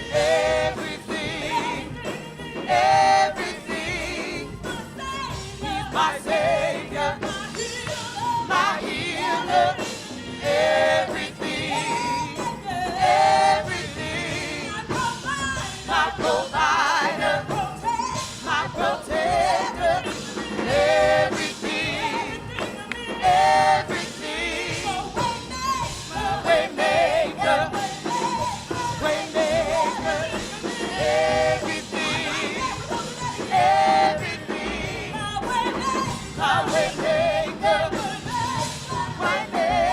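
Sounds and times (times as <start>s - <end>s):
gospel singing with vibrato: 0.0s - 39.9s
live instrumental accompaniment: 0.0s - 39.9s.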